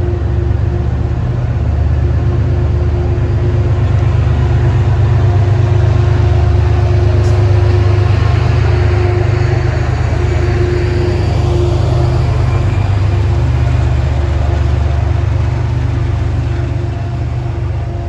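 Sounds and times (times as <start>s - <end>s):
diesel locomotive engine rumbling: 0.0s - 18.0s.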